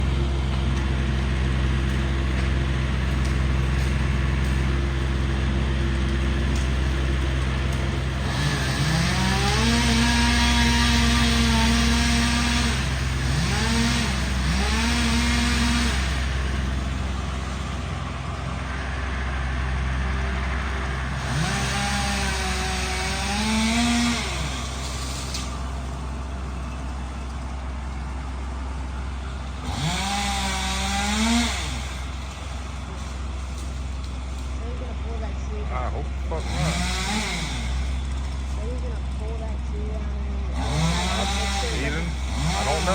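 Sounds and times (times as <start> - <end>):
chainsaw revving: 0.0 - 28.1, 29.0 - 42.9
low engine hum: 0.0 - 42.9.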